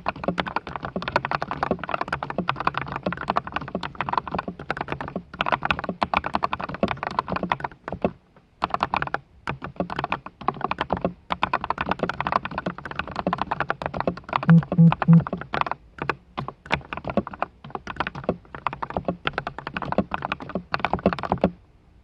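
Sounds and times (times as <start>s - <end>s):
mechanical keyboard typing: 0.0s - 21.6s.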